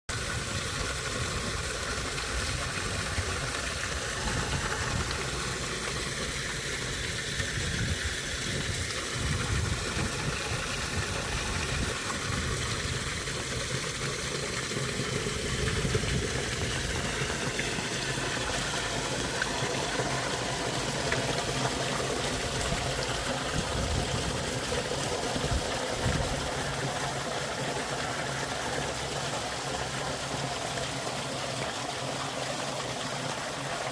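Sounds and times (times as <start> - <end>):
water gurgling under ice: 0.1 - 33.9.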